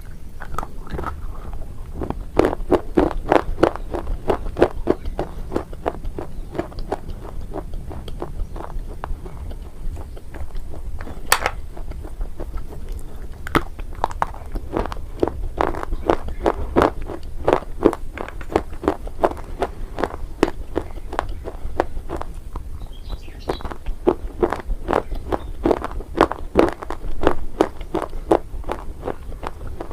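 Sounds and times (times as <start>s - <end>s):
sharp biting snaps: 0.0s - 22.6s, 23.5s - 29.9s
chewing and crunching: 0.0s - 29.9s.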